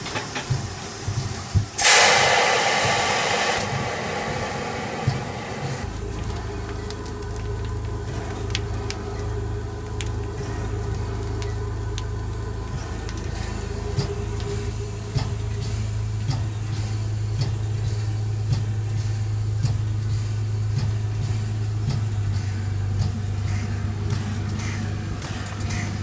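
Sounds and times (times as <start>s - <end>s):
steam locomotive rumbling: 0.0s - 26.0s.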